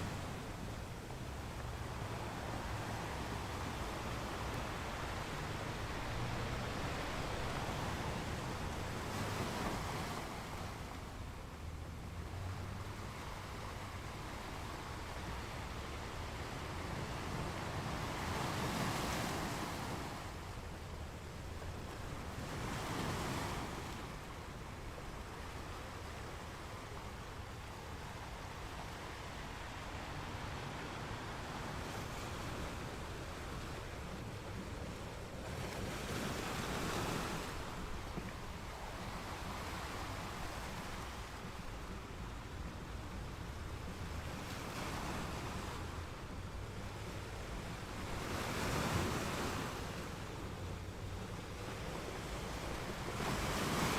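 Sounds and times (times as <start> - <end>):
waves breaking on beach: 0.0 - 53.9.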